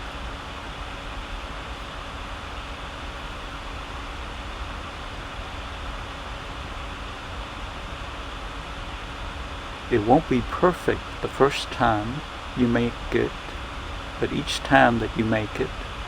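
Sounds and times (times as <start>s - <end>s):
faint low hum: 0.0s - 16.0s
steady background hiss: 0.0s - 16.0s.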